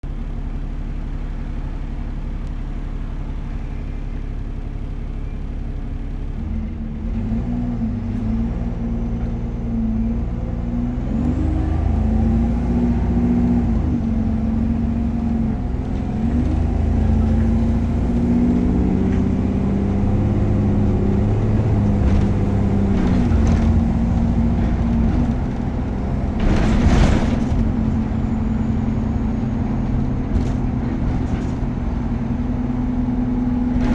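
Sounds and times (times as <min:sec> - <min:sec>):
bus engine idling and accelerating: 0:00.0 - 0:33.9.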